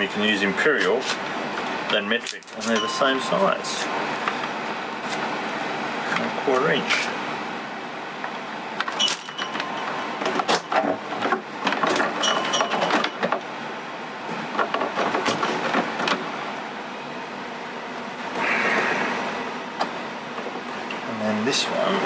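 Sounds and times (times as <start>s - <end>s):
steady background hiss: 0.0s - 14.6s, 15.7s - 22.0s.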